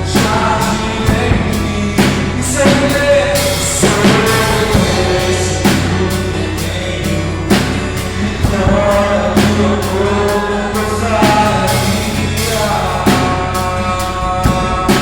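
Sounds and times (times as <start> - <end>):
acoustic guitar: 0.0 - 15.0
drum and cymbal hits: 0.0 - 15.0
man singing: 0.0 - 15.0.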